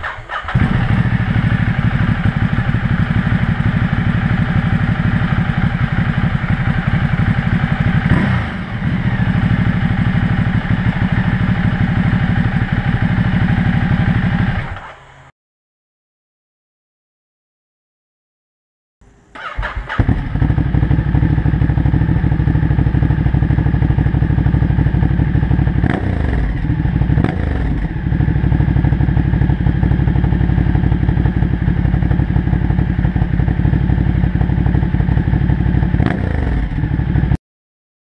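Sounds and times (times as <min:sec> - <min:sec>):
motorcycle engine idling and revving: 0:00.0 - 0:15.3, 0:19.4 - 0:37.4.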